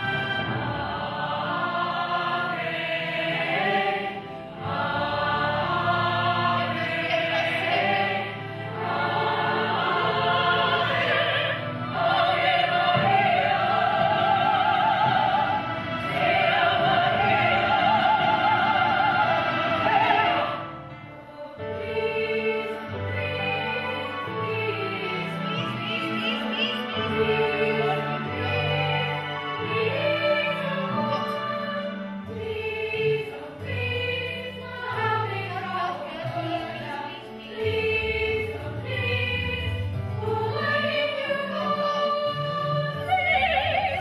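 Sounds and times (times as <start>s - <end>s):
musical accompaniment: 0.0s - 44.0s
operatic singing with vibrato: 0.0s - 44.0s.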